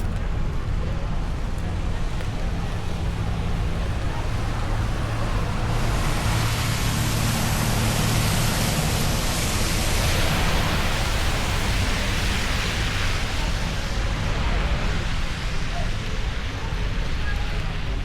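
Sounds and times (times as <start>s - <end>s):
low engine hum: 0.0s - 18.0s
tyres hissing on wet pavement: 0.0s - 18.0s.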